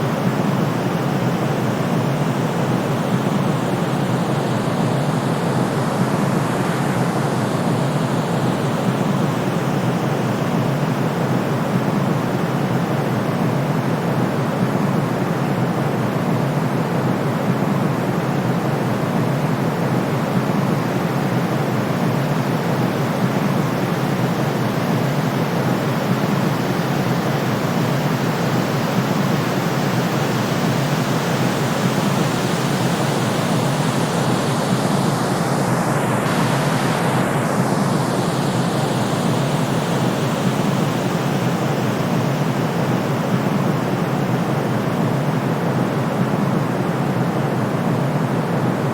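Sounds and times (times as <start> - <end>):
white noise hiss: 0.0 - 48.9.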